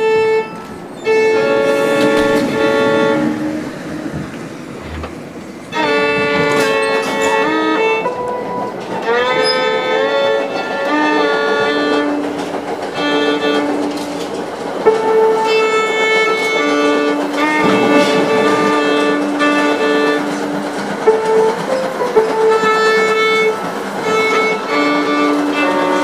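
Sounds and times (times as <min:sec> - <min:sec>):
violin long held notes: 0:00.0 - 0:26.0.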